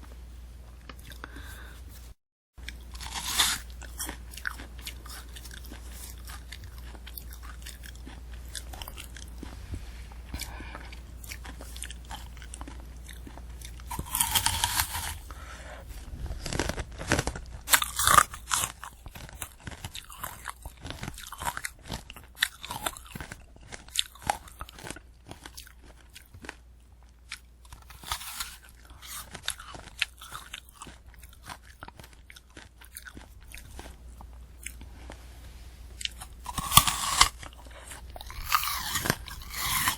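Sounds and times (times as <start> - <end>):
steady low hum: 0.0 - 39.9
hard candy shell crunching: 2.6 - 9.6, 11.3 - 34.8, 36.0 - 39.9
wet crisp apple chewing: 2.6 - 35.3, 35.9 - 39.9.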